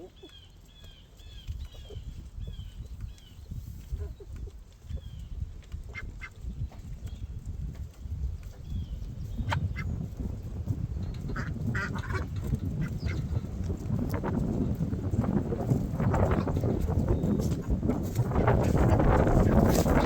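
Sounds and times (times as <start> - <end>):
birds calling: 0.0 - 7.3, 8.5 - 20.0
steady low rumble: 1.3 - 20.0.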